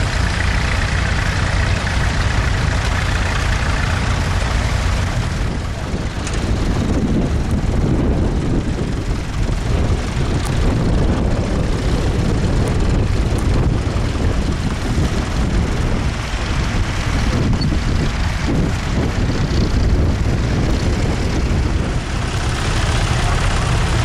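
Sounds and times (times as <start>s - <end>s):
tractor engine chugging: 0.0s - 24.0s.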